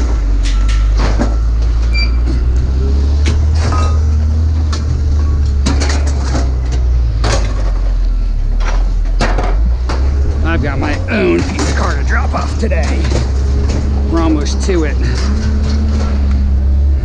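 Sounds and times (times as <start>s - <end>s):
knocks and rattles: 0.0s - 16.6s
vehicle engine and road rumble: 0.0s - 17.0s.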